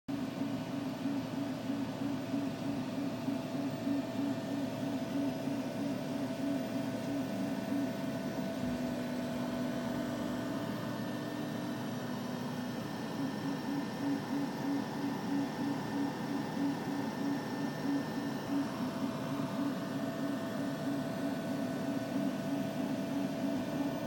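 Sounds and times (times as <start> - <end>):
pulsing machine hum: 0.1 - 24.0.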